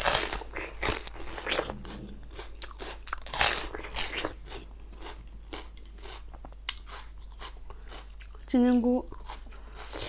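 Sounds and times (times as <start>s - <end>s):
person chewing crunchy food: 0.0s - 8.5s, 9.1s - 10.0s.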